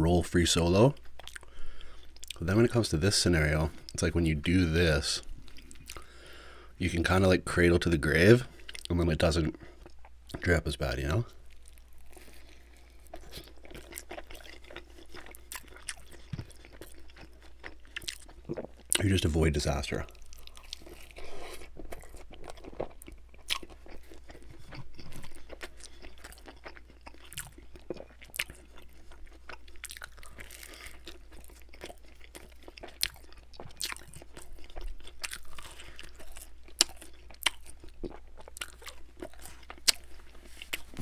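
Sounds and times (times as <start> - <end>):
chewing crunchy pizza crust: 3.7 - 6.2, 8.1 - 41.0.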